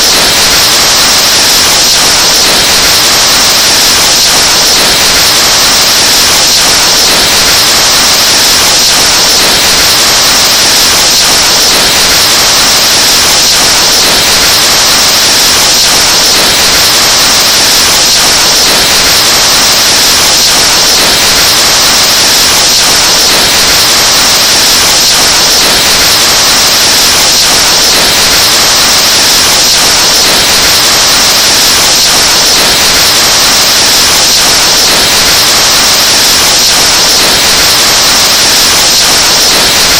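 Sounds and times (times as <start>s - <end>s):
distorted blowing into microphone: 0.0s - 39.9s.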